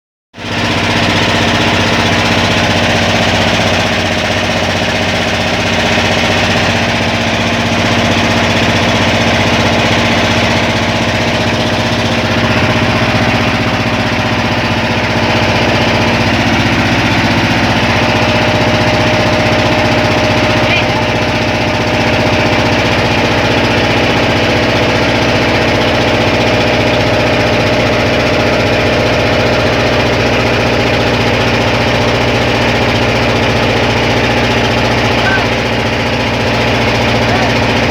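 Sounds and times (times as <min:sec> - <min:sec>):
boat engine running: 0:00.3 - 0:37.9.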